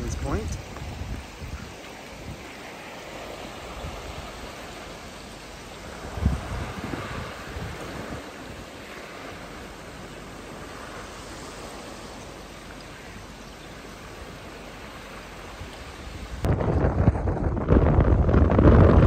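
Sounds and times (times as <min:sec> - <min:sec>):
wind buffeting microphone: 0:00.0 - 0:12.7, 0:13.9 - 0:19.0
water washing through ice floes: 0:00.0 - 0:19.0.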